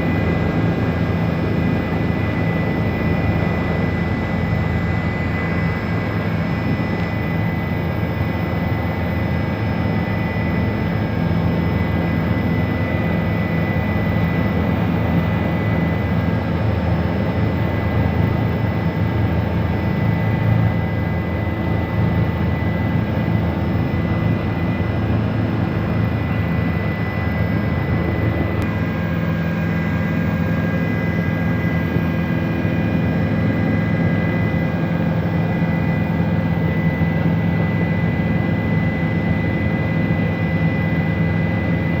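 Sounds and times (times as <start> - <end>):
helicopter engine and rotor drone: 0.0 - 42.0.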